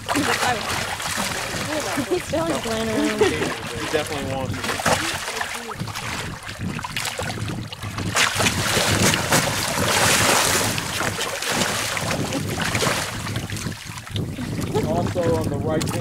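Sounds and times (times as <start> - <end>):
sharks splashing at water surface: 0.0 - 13.7
wind buffeting microphone: 0.0 - 16.0.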